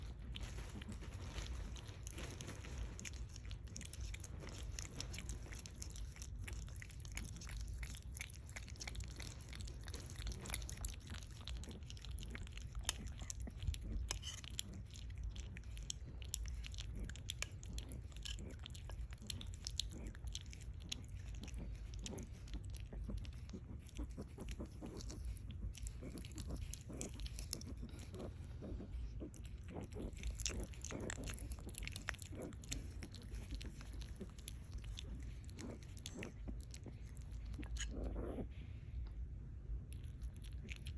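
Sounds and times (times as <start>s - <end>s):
pet chewing and crunching food: 0.0s - 40.9s.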